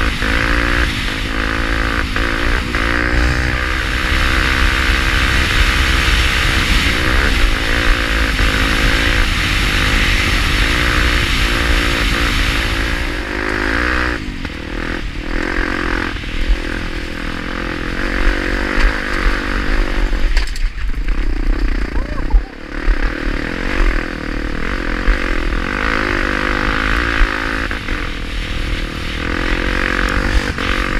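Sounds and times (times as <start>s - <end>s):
motorcycle engine revving: 0.0s - 30.9s
wind rushing over microphone: 0.0s - 30.9s.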